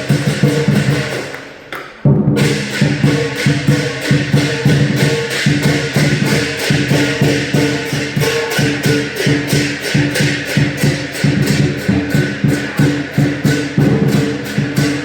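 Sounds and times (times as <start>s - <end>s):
big drum beating: 0.0s - 1.4s, 2.0s - 15.0s
cymbals clashing: 0.0s - 15.0s.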